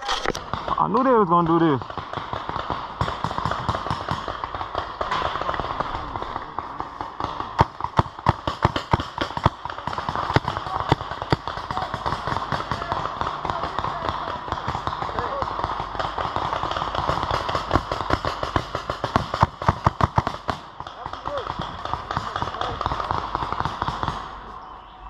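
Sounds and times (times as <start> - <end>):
paintball markers firing: 0.0 - 24.6.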